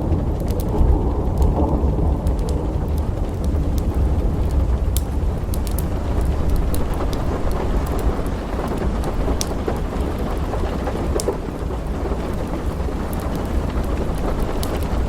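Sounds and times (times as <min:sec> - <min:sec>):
low thunder rumble: 0:00.0 - 0:15.0
steady rain: 0:00.0 - 0:15.0
wood fire crackling: 0:00.0 - 0:15.0.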